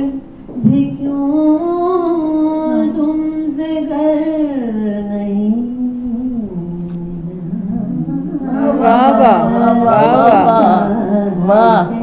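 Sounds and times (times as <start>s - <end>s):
woman singing into a microphone: 0.0s - 12.0s.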